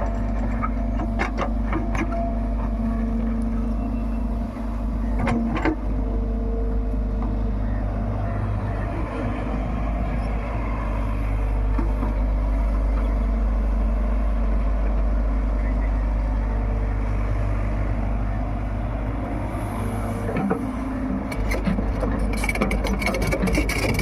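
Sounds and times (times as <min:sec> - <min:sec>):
heavy machinery diesel engines running: 0:00.0 - 0:24.0.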